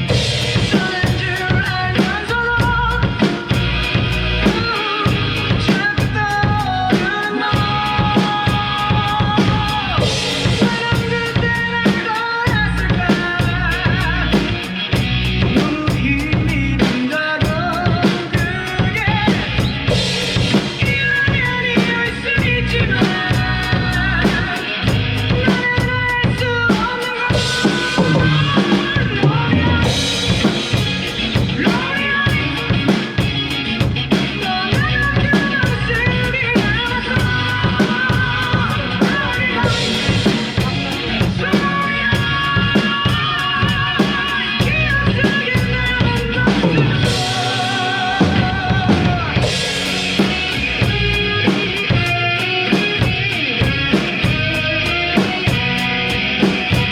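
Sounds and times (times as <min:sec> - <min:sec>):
drum kit playing: 0:00.0 - 0:56.9
rock band playing: 0:00.0 - 0:56.9.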